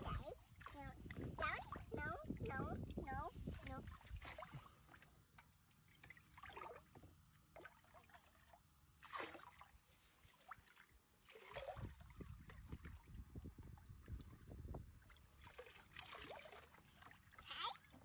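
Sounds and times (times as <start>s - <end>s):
water sloshing in a tub: 0.0s - 18.0s.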